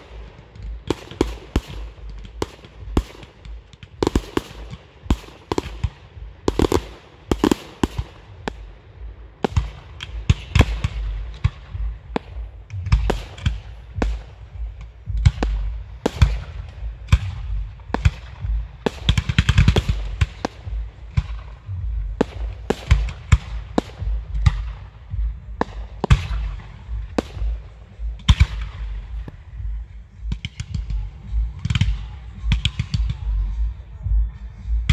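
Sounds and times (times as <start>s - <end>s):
low rumble: 0.0s - 34.9s.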